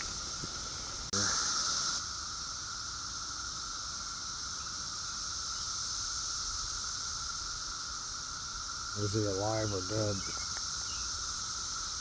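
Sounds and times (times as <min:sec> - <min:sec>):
cicadas droning chorus: 0:00.0 - 0:12.0.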